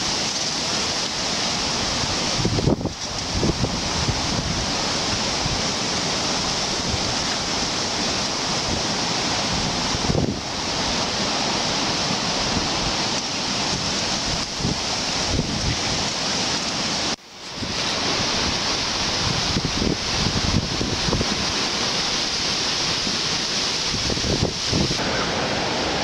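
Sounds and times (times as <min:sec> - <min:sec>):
water rushing: 0:00.0 - 0:26.0
wind buffeting microphone: 0:01.8 - 0:16.3, 0:17.5 - 0:25.4.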